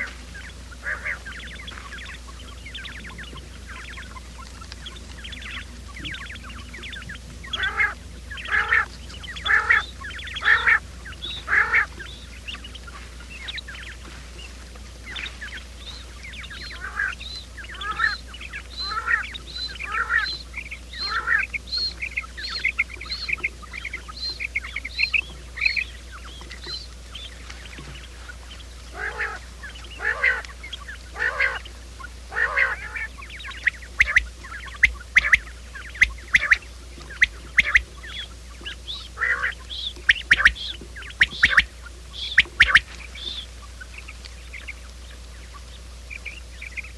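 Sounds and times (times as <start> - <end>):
faint low hum: 0.0 - 46.9
quail calling: 0.0 - 46.9.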